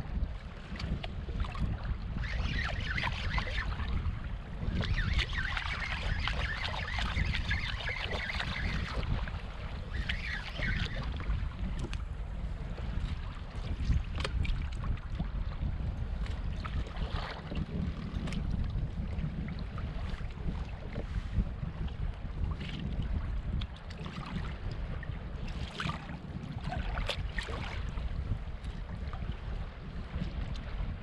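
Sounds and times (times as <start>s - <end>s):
water lapping against hull: 0.0s - 31.0s
wind buffeting microphone: 0.0s - 31.0s.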